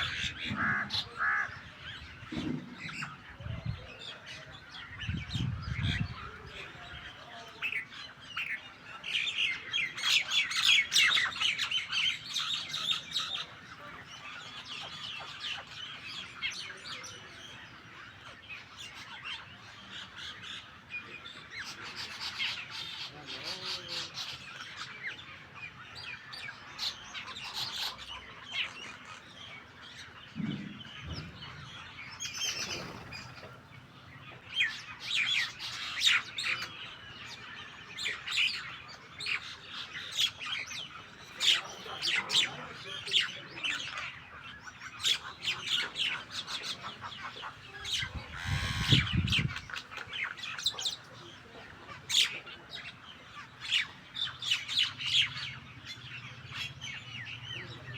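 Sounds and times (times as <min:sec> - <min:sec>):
birds chirping and squawking: 0:00.0 - 0:57.9.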